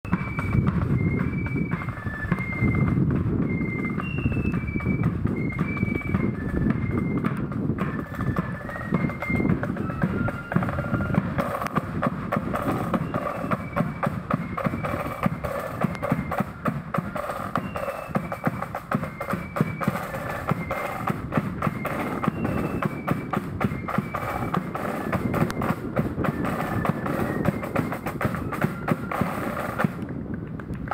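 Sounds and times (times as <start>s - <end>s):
flute melody: 0.0s - 30.2s
snare and bass drums: 0.1s - 30.9s.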